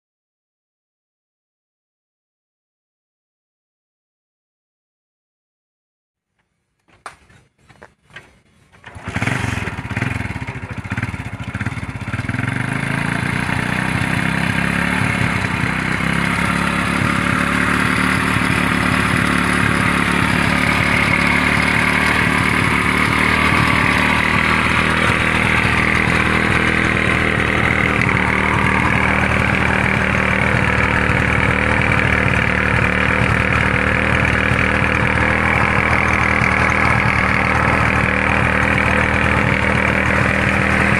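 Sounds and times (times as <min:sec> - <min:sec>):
motorcycle engine starting and running: 0:06.9 - 0:40.9.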